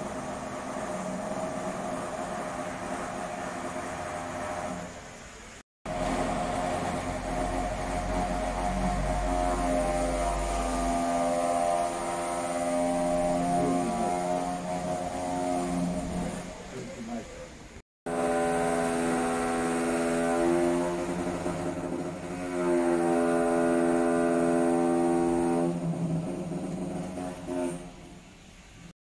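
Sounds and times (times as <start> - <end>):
machinery engine humming: 0.0 - 17.7, 18.3 - 28.4.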